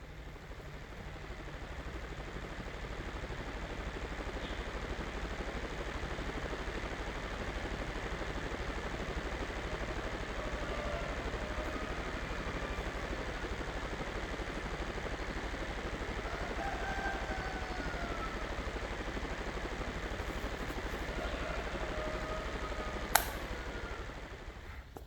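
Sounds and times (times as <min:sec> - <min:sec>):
electric fan whirring: 0:00.0 - 0:25.0.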